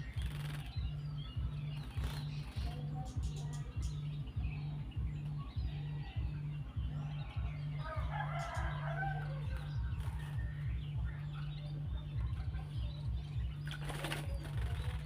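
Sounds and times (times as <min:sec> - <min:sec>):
bird chirping: 0:00.0 - 0:15.0
music with pulsing low beat: 0:00.0 - 0:15.0.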